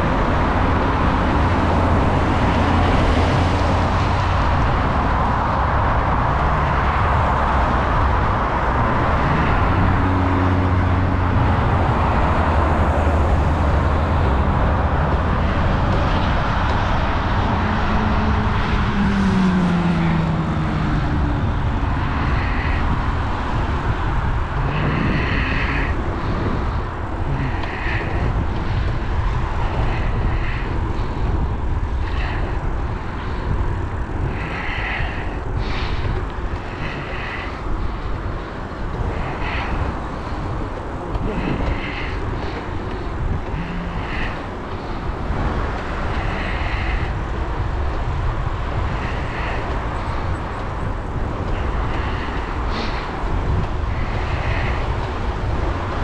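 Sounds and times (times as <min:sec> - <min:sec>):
passing vehicle engine: 0:00.0 - 0:56.0
road traffic: 0:00.0 - 0:56.0
wind on microphone: 0:00.0 - 0:56.0.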